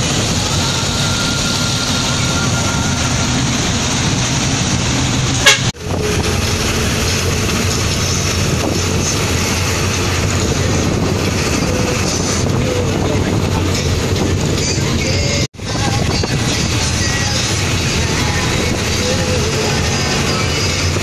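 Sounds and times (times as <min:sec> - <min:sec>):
road and engine noise: 0:00.0 - 0:21.0.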